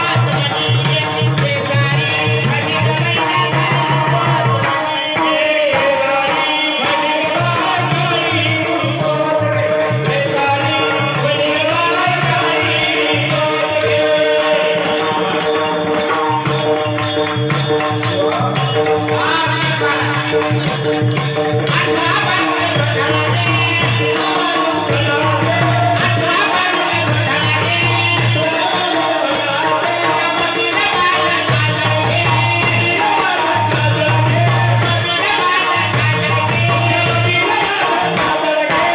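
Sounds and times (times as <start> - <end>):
jingling percussion: 0.0 - 38.9.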